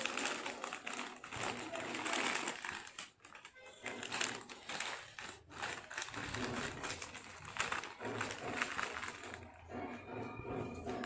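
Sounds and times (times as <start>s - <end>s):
crisp packets crinkling: 0.0s - 10.0s.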